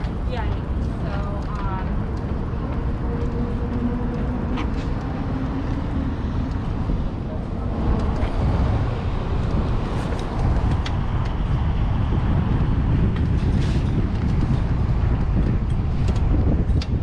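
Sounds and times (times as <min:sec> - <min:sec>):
low rumble of travel: 0:00.0 - 0:17.0
wind buffeting microphone: 0:00.0 - 0:17.0.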